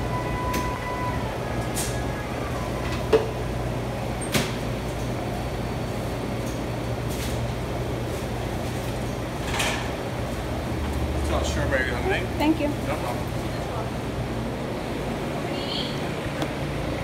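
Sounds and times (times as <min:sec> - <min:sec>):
clatter of baristas working: 0:00.0 - 0:17.0.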